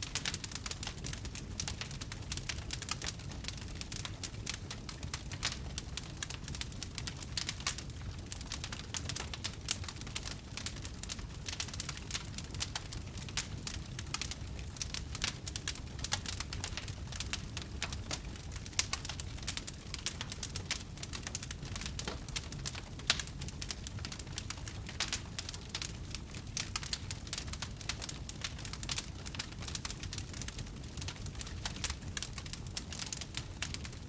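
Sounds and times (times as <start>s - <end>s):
campfire crackling and popping: 0.0s - 34.0s
low rumble of flames: 0.0s - 34.0s.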